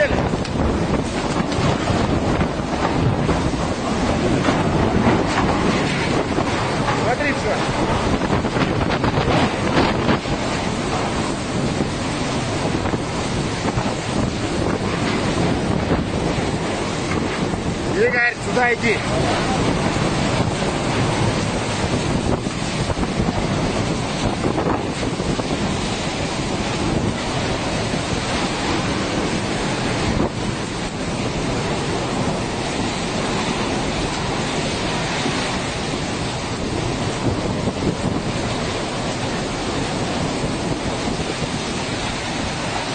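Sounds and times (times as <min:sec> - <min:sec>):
strong wind on microphone: 0:00.0 - 0:42.9.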